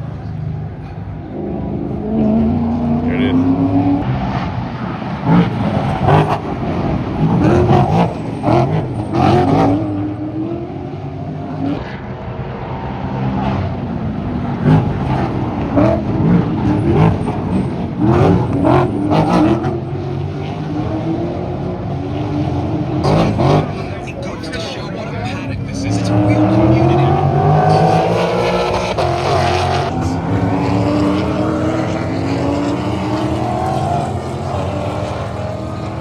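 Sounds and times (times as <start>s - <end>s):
race cars passing: 0.0s - 36.0s.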